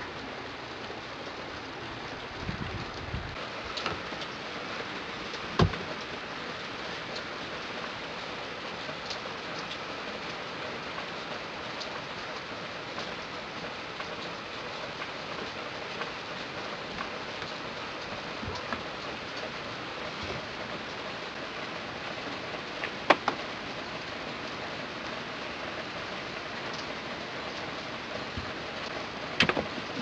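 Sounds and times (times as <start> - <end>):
rain-like hiss: 0.0 - 30.0.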